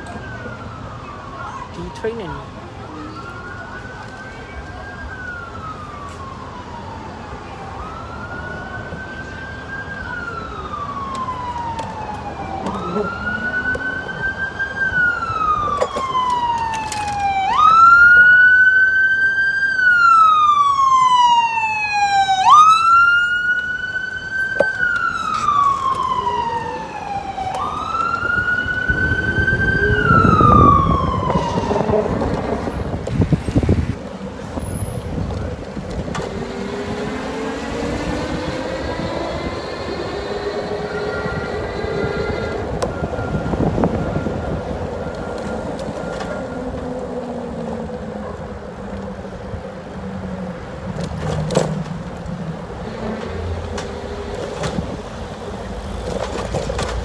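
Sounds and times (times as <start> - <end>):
ambulance siren wailing: 0.0 - 57.0.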